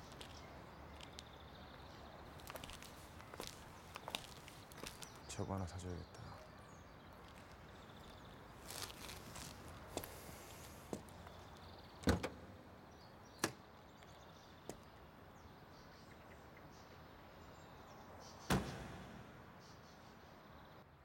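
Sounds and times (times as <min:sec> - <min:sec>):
faint background noise: 0:00.0 - 0:21.0.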